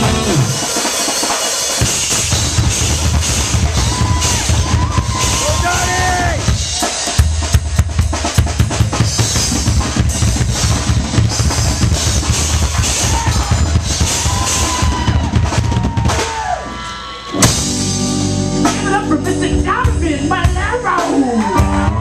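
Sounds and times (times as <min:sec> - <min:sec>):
drum kit hit hard: 0:00.0 - 0:16.8, 0:17.4 - 0:20.9
live rock band playing: 0:00.0 - 0:22.0.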